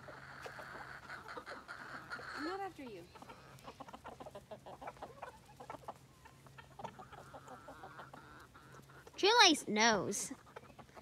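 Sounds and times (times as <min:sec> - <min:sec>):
chickens clucking faintly: 0:00.0 - 0:09.6, 0:10.2 - 0:11.0.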